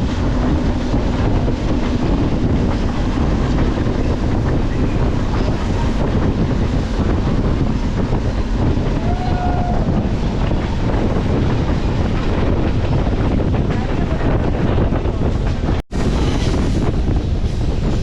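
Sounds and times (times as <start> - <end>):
moving train rumble: 0.0 - 18.0
wind buffeting microphone: 0.0 - 18.0.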